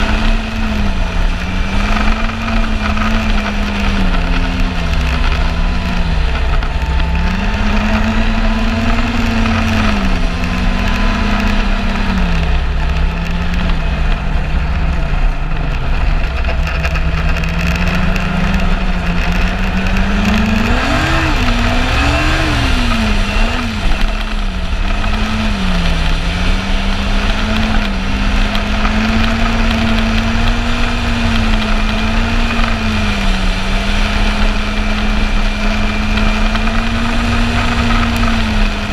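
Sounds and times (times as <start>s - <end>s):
snowmobile engine running: 0.0s - 38.9s
steady rushing noise: 0.0s - 38.9s.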